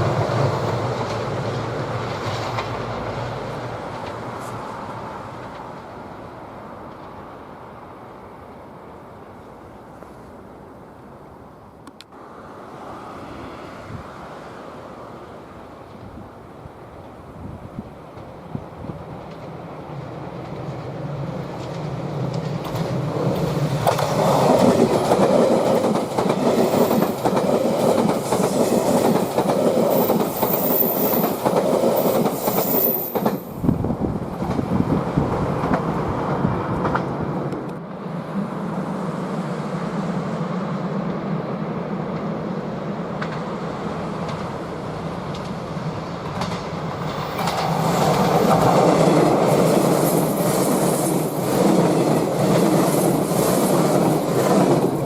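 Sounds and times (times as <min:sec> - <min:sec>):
electric train running past: 0:00.0 - 0:55.0.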